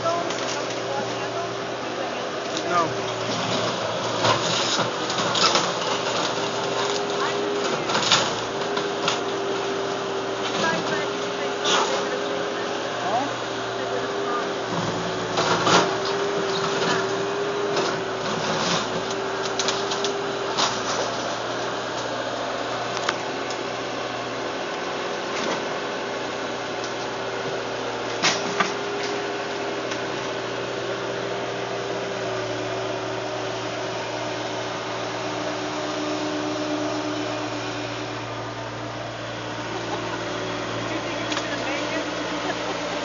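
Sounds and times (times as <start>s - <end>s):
machine engine humming: 0.0s - 43.0s.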